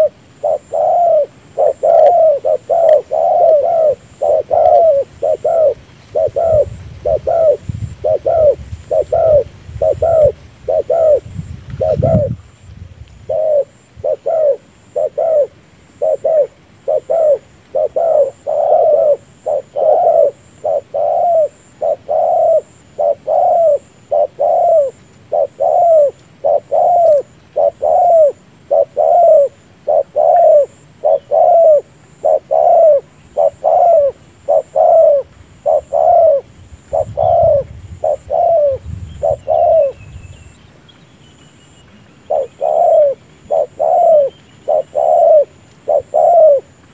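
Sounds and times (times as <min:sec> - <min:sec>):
dove cooing: 0:00.0 - 0:12.4, 0:13.2 - 0:40.5, 0:42.2 - 0:46.8.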